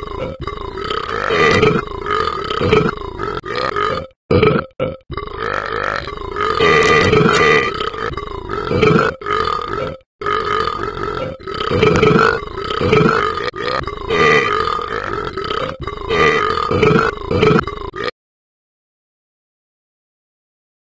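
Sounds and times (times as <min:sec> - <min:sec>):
person burping: 0:00.0 - 0:18.2.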